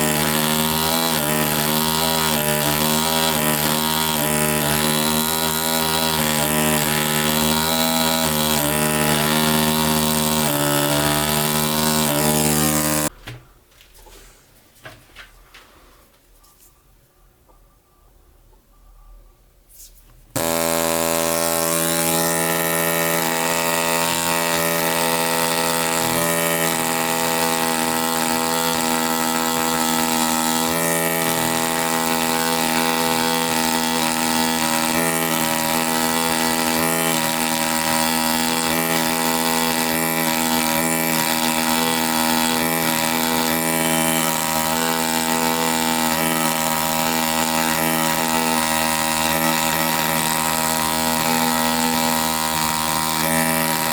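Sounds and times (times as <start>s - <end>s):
pneumatic air scribe buzzing: 0.0s - 13.1s, 20.4s - 53.9s.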